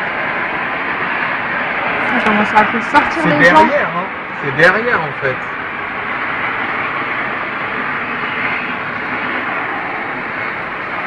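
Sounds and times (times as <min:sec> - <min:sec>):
steady noisy drone: 0:00.0 - 0:11.0.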